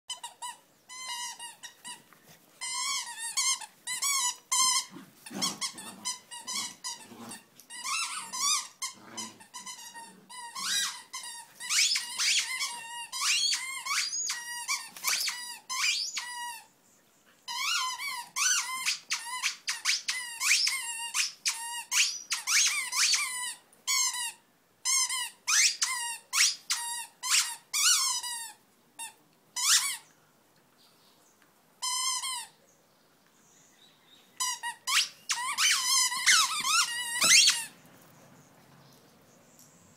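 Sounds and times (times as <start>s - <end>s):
squeaky toy squeaking: 0.1s - 16.7s, 17.5s - 30.0s, 31.8s - 32.6s, 34.4s - 37.7s.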